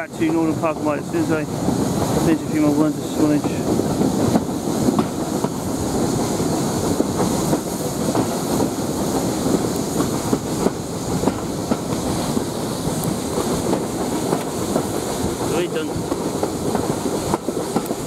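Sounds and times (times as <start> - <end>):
rail clicks: 0.0 - 18.0
steam train rumbling: 0.0 - 18.0.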